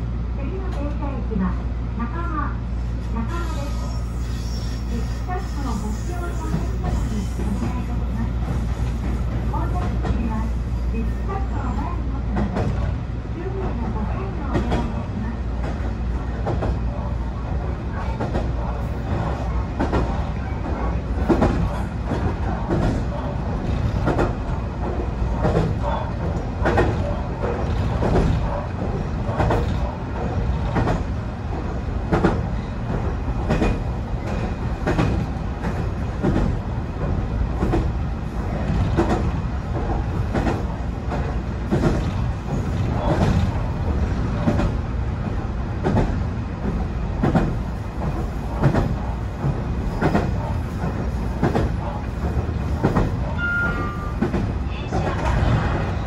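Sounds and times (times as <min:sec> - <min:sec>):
train running low rumble: 0:00.0 - 0:56.0.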